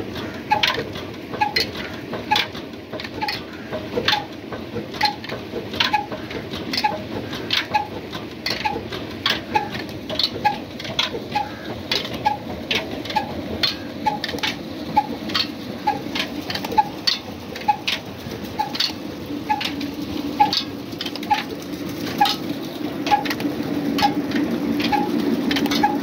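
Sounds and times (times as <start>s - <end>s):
diesel engine running slowly: 0.0s - 26.0s.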